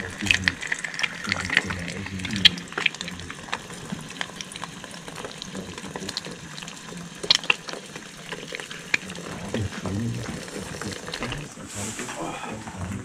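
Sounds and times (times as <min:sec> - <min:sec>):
eggs sizzling in oil: 0:00.0 - 0:12.0
oil popping: 0:00.0 - 0:12.0.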